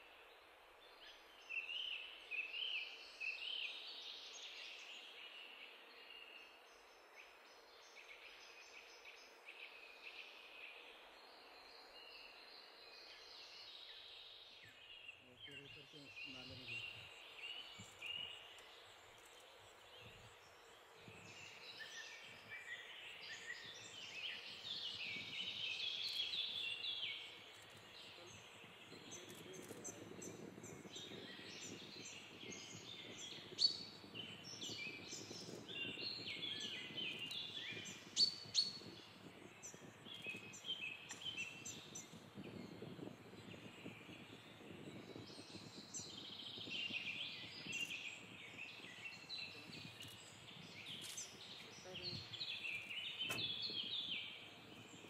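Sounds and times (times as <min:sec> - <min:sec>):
birds chirping and trilling: 0:00.0 - 0:55.0
outdoor background noise: 0:00.0 - 0:55.0.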